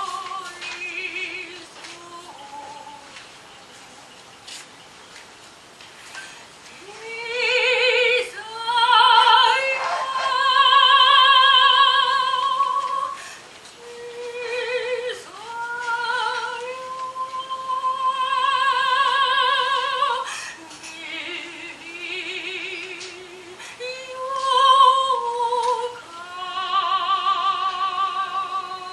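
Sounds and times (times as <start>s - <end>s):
woman singing opera: 0.0s - 3.4s, 6.7s - 28.9s.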